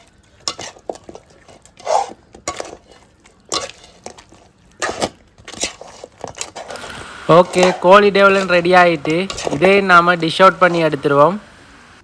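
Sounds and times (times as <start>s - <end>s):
spoon scraping a pan: 0.0s - 9.9s.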